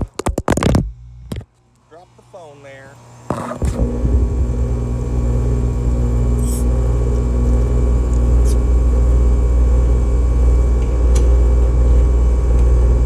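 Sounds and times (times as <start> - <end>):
air conditioner humming: 1.0 - 13.0.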